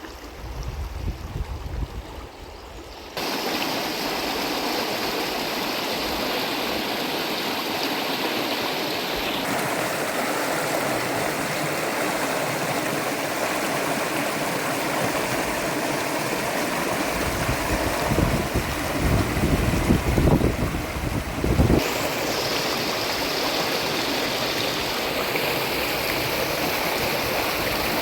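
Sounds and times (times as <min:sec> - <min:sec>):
rushing flowing water: 0:00.0 - 0:28.0.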